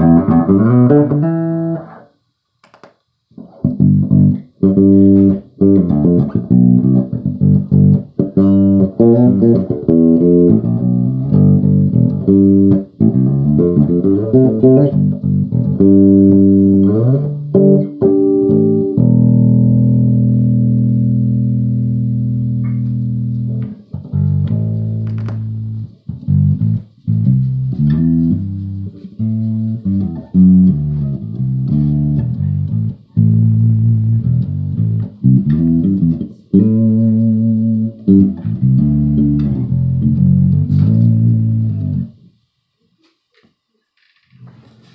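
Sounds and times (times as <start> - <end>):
electric bass guitar plucked: 0.0 - 2.1, 3.4 - 42.3.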